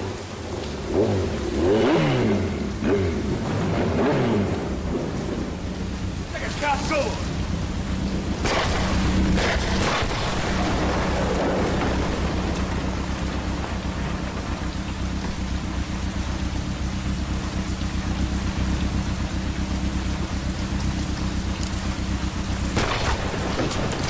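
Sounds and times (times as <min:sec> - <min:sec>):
heavy rain splashing: 0:00.0 - 0:24.0
low steady rumble: 0:00.0 - 0:24.0.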